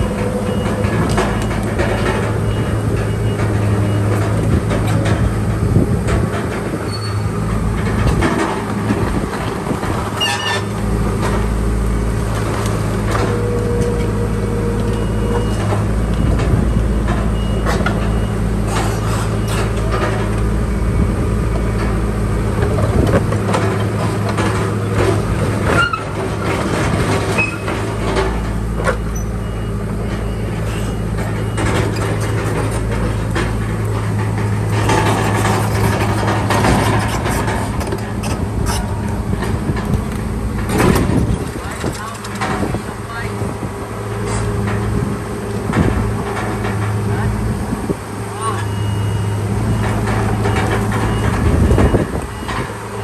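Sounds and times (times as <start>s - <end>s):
bulldozer diesel engine running: 0.0s - 53.0s
metallic clanking and squeaks of tracks: 0.0s - 53.0s.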